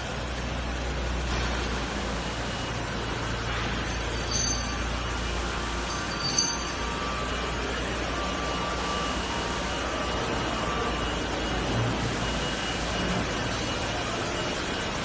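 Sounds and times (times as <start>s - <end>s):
low hum of fans: 0.0s - 15.0s.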